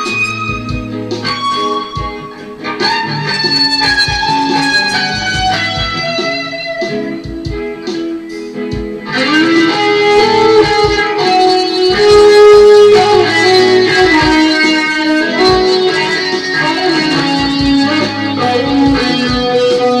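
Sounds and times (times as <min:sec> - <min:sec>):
electric guitar lead melody: 0:00.0 - 0:20.0.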